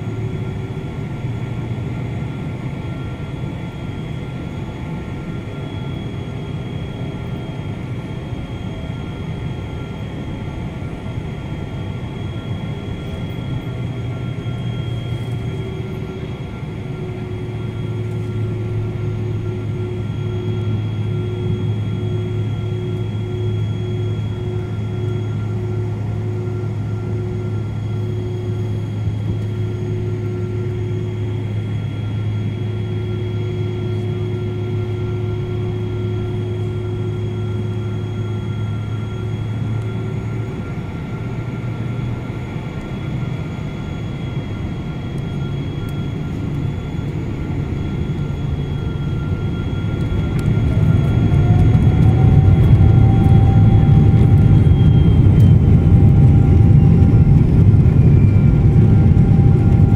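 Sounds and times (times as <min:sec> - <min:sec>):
engine whine rising in pitch: 0:00.0 - 0:59.9
jet engines hum in cabin: 0:00.0 - 0:59.9.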